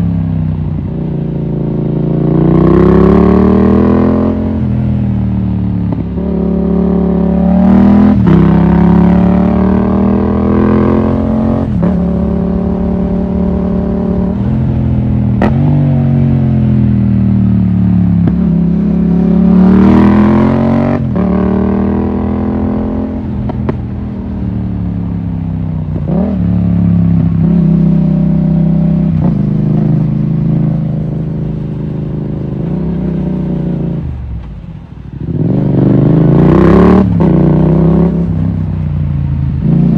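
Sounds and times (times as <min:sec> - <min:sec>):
motorcycle engine revving: 0:00.0 - 0:34.3, 0:35.2 - 0:39.9.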